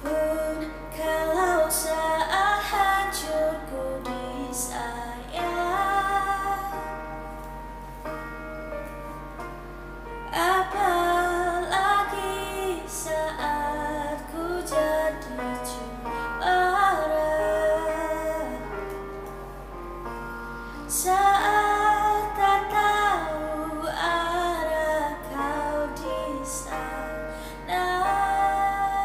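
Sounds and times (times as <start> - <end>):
woman singing: 0.0 - 7.1, 10.3 - 19.0, 20.9 - 29.0.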